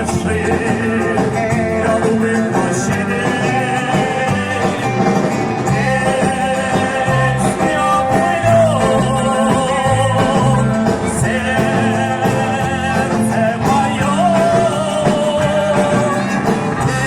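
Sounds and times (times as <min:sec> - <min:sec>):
live band playing pop-rock: 0:00.0 - 0:17.0
steady bass line: 0:00.0 - 0:17.0.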